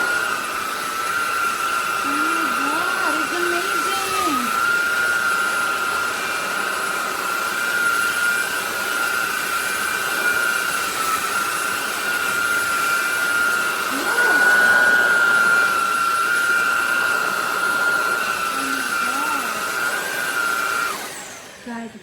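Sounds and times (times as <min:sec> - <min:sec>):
stick vacuum whining: 0:00.0 - 0:22.0.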